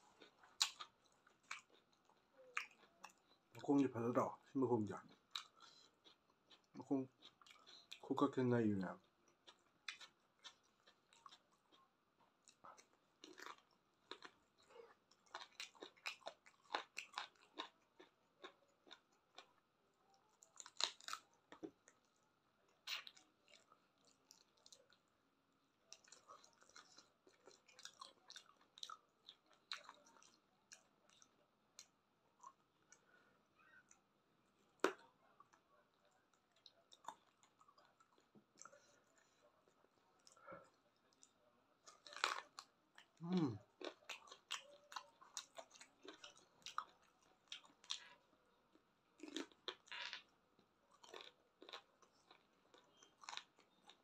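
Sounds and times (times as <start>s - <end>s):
chewing and crunching: 0.0s - 4.2s, 4.9s - 8.4s, 9.0s - 54.0s.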